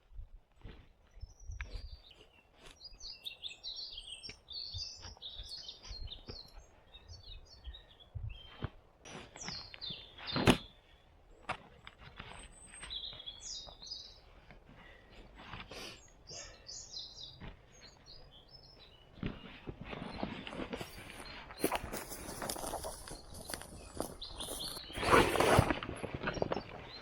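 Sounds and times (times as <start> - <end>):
small birds chirping: 0.6 - 27.0.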